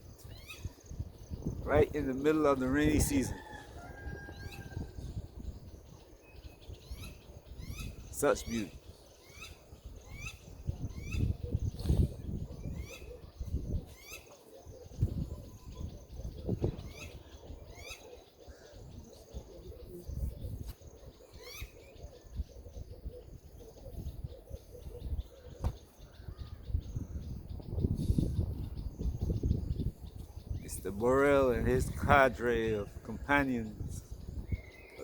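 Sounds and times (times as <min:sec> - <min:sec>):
birds whistling: 0:00.2 - 0:35.0.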